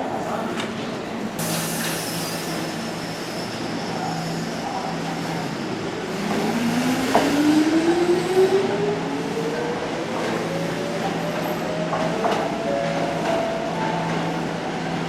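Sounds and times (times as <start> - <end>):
wheels rumbling on rail: 0.6 - 15.0.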